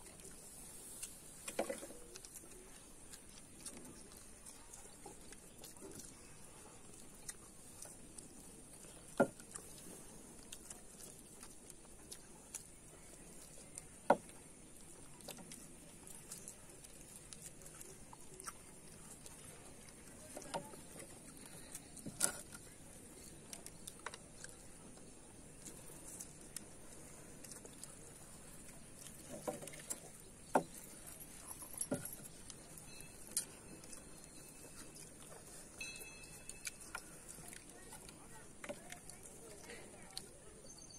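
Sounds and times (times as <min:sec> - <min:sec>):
children chewing: 0:00.0 - 0:40.9.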